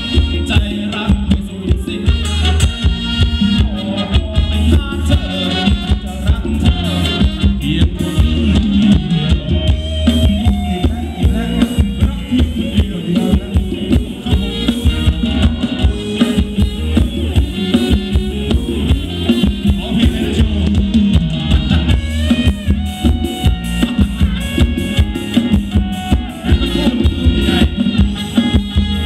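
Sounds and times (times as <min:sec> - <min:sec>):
drum kit beat: 0:00.0 - 0:29.0
heavy bass: 0:00.0 - 0:29.0
live band playing dance music: 0:00.0 - 0:29.0.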